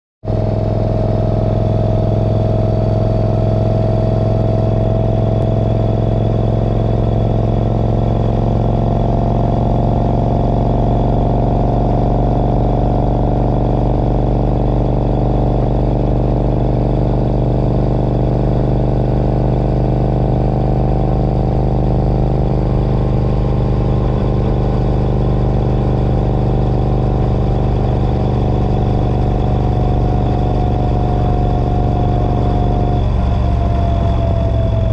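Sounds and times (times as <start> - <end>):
motorcycle engine steady low drone: 0.2 - 34.9.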